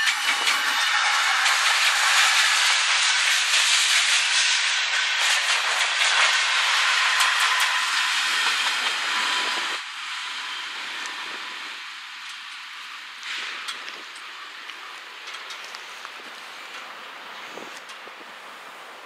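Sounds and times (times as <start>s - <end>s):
distant train rushing: 0.0s - 19.0s
freight train wheels rushing: 0.0s - 19.0s.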